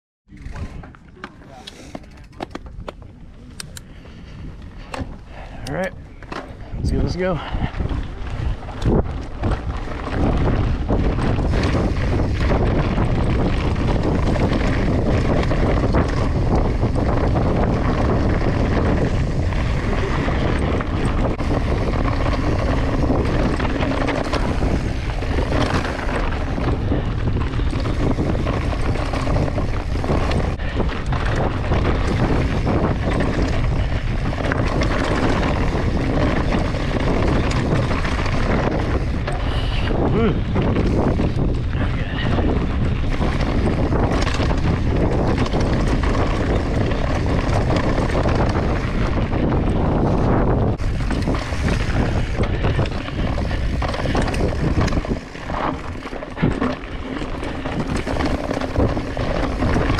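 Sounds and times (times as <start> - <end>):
bike knocking and rattling: 0.3 - 59.9
bike tyres rolling on rocky dirt: 0.3 - 59.9
wind buffeting microphone: 0.3 - 59.9.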